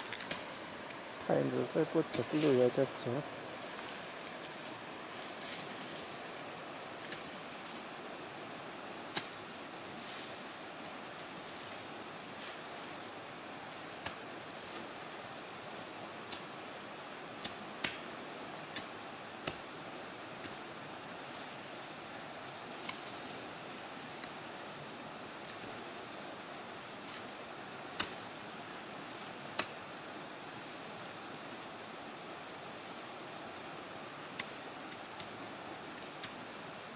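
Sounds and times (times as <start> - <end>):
steady hiss: 0.0 - 36.9.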